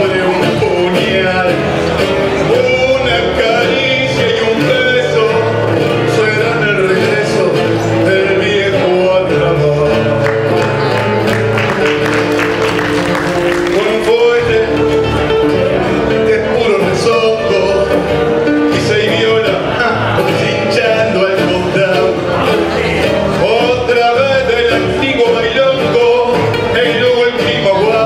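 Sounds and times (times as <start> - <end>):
man singing into a microphone: 0.0 - 10.6, 13.2 - 28.0
acoustic guitars strumming: 0.0 - 28.0.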